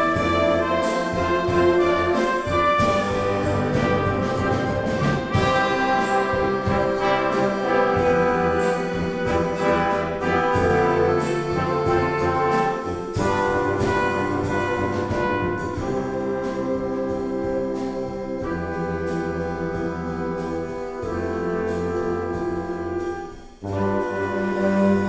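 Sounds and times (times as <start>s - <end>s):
brass playing chords and melody: 0.0s - 25.0s
steady drum beat: 0.0s - 25.0s.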